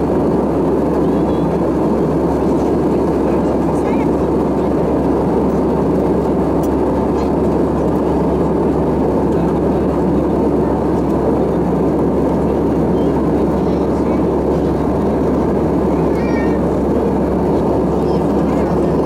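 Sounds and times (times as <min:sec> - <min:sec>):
jet engines humming: 0:00.0 - 0:19.0.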